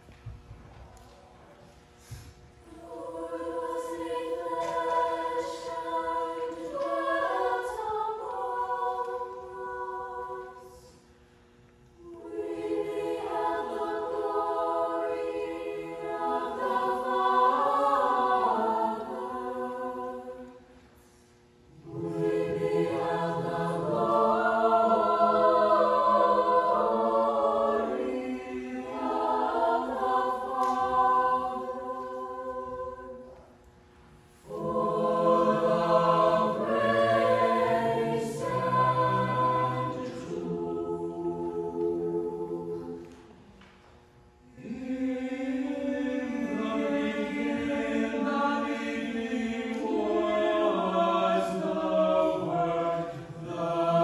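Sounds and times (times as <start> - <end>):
choir singing a cappella: 2.0 - 11.1, 12.0 - 21.0, 21.7 - 33.6, 34.2 - 43.7, 44.4 - 54.0.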